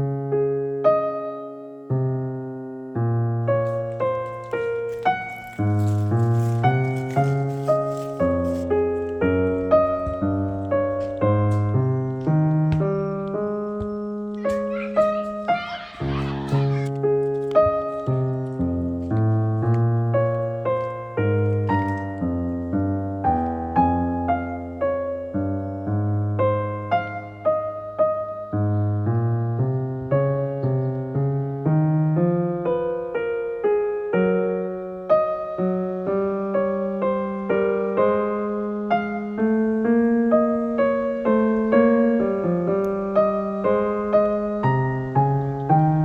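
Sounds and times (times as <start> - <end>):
gentle piano music: 0.0 - 46.0.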